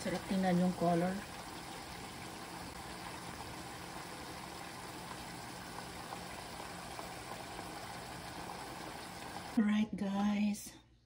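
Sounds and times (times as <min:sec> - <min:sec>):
sauce simmering in a pan: 0:00.0 - 0:09.6.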